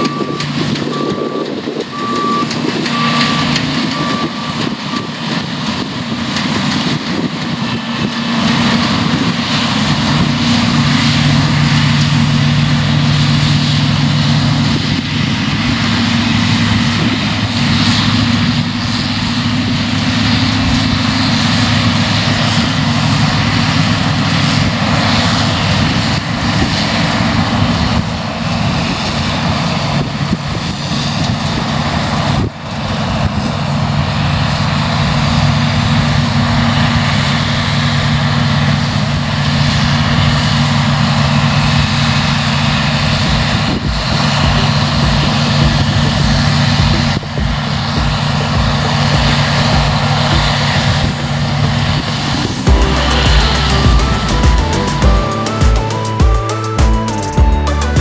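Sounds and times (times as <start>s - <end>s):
combine harvester drone: 0.0s - 58.0s
tractor running: 0.0s - 58.0s.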